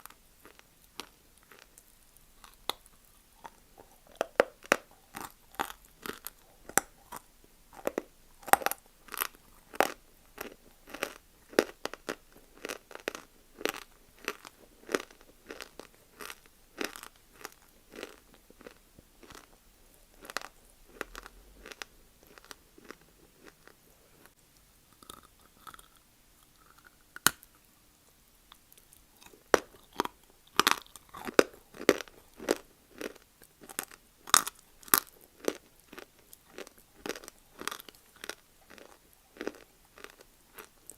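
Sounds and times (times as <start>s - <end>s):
person chewing crunchy clay: 0.0s - 27.6s, 28.5s - 40.9s.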